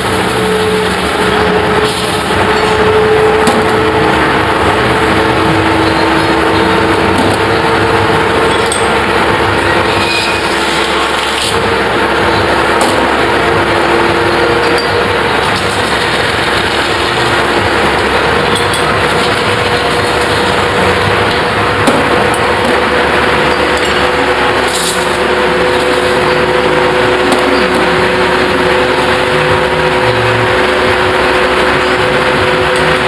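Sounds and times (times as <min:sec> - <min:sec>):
metal spinning lathe running: 0:00.0 - 0:33.0.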